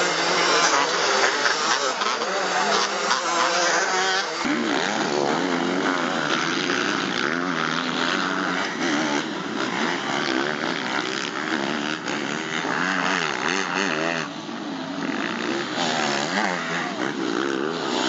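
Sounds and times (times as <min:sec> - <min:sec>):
motocross bikes revving: 0:00.0 - 0:18.0.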